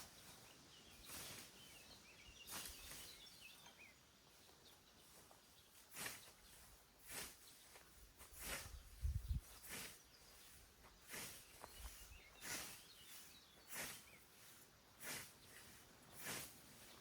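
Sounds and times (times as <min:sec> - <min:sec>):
scythe swishing through grass: 0:00.0 - 0:03.4, 0:05.0 - 0:17.0
faint bird chirps: 0:00.0 - 0:17.0.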